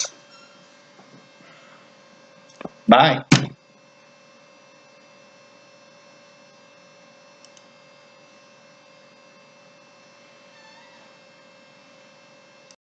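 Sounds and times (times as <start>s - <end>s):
faint electrical hum: 0.0s - 12.7s.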